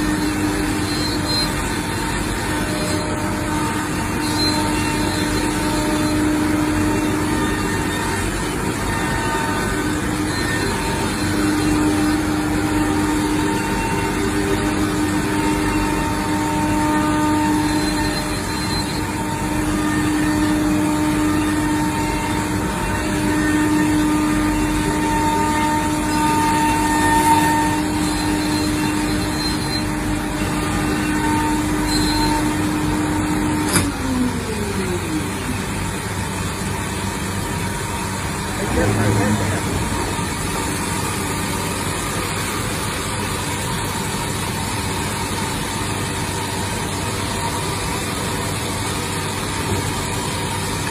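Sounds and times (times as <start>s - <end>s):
cnc router whine: 0.0s - 50.9s.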